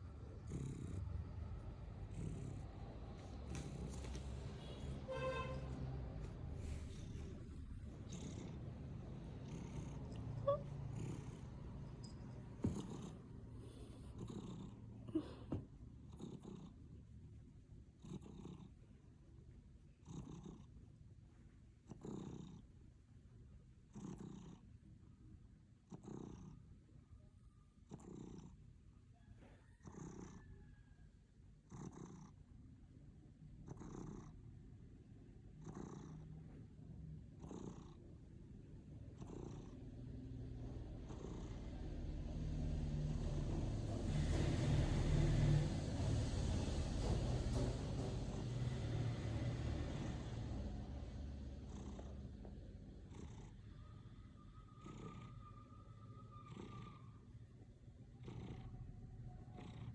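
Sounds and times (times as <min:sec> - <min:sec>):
cat purring: 0:00.0 - 0:27.2, 0:27.8 - 0:59.9.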